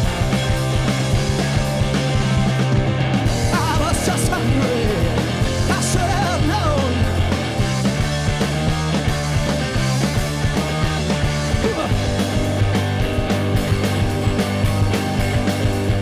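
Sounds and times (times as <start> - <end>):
rock band playing live: 0.0 - 16.0
sustained bass notes: 0.0 - 16.0.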